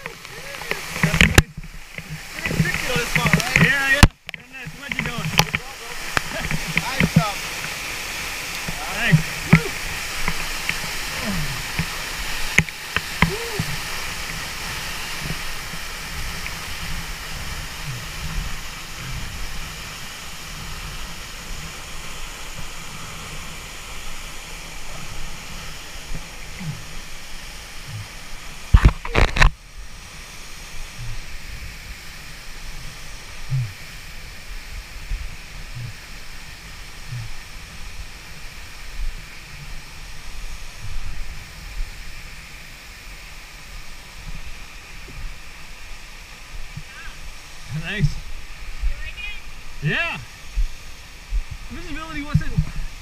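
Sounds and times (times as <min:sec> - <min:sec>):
waterfall rushing and splashing: 0:00.0 - 0:53.0.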